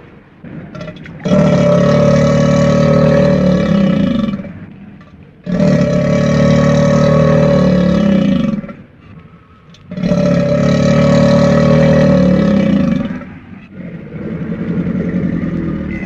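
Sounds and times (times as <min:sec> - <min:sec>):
crocodilian roars: 0:00.6 - 0:04.7, 0:05.4 - 0:08.9, 0:09.8 - 0:16.0.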